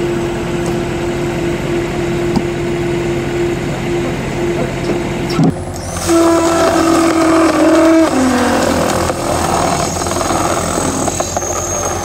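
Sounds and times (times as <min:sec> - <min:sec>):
hydraulic log splitter hum: 0:00.0 - 0:12.0
pitched machine whine: 0:00.0 - 0:12.0.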